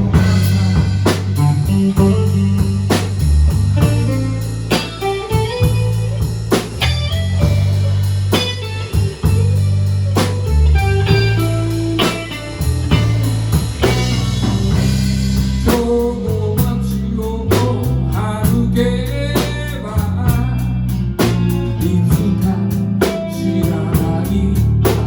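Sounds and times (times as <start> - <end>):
bass line: 0.0 - 25.0
blues guitar fills: 0.0 - 25.0
drum kit slow beat: 0.0 - 25.0.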